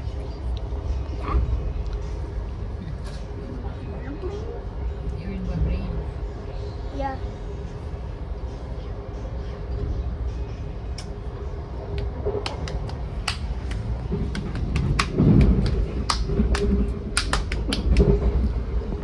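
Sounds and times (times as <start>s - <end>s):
constant hum: 0.0s - 19.0s
train rumbling on rails: 0.0s - 19.0s.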